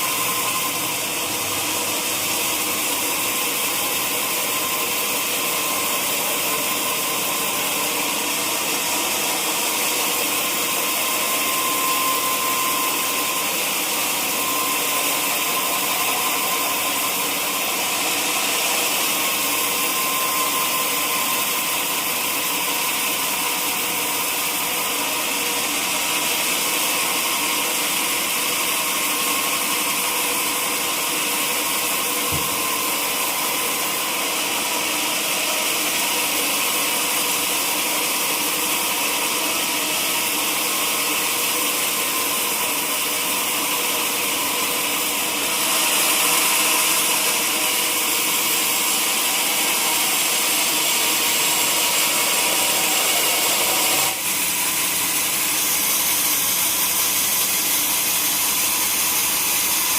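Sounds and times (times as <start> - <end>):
sawmill saw running: 0.0 - 59.9.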